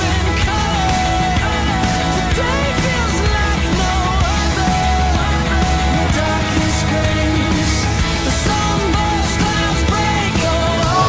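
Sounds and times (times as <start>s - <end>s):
song with bass and beat: 0.0s - 11.0s.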